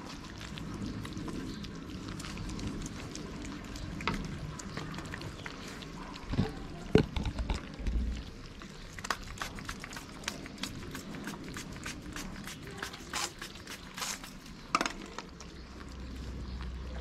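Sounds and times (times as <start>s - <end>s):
cats lapping and chewing: 0.0s - 17.0s.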